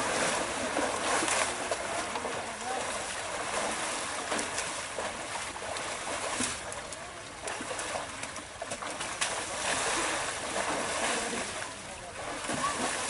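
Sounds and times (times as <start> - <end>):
river water rushing: 0.0 - 13.0
water splashes: 0.0 - 13.0.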